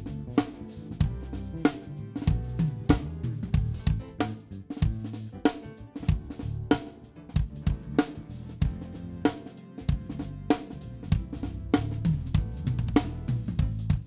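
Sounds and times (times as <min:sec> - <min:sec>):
bass guitar low notes: 0:00.0 - 0:09.3, 0:09.9 - 0:14.0
drum kit playing: 0:00.0 - 0:14.0.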